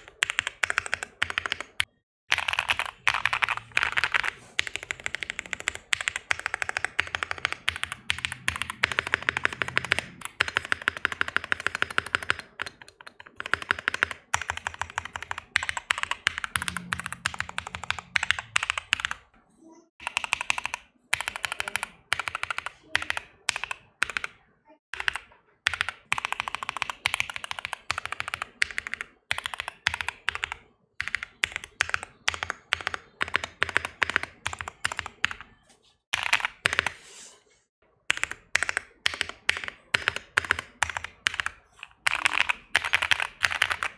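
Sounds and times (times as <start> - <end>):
mechanical keyboard typing: 0.0 - 19.3, 20.0 - 24.4, 25.0 - 35.6, 36.2 - 37.0, 38.0 - 43.9.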